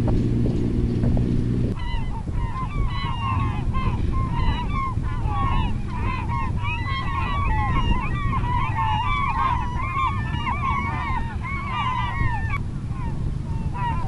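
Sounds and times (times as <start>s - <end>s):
low wind rumble: 0.0s - 14.0s
flock of birds calling: 1.8s - 14.0s.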